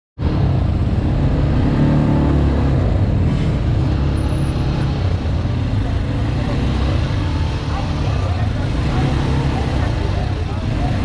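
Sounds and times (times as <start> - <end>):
road and wind noise: 0.2 - 11.0
atv engine running: 0.3 - 11.0.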